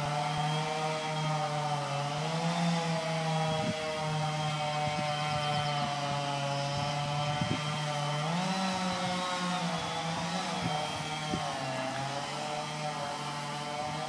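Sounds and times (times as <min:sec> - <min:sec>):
chainsaw running at high revs: 0:00.0 - 0:14.0.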